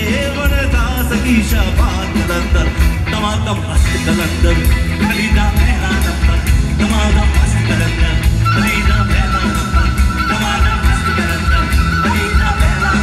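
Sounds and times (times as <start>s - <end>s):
bass guitar: 0.0s - 13.0s
drums: 0.0s - 13.0s
electric guitar: 0.0s - 13.0s
person singing: 0.0s - 13.0s.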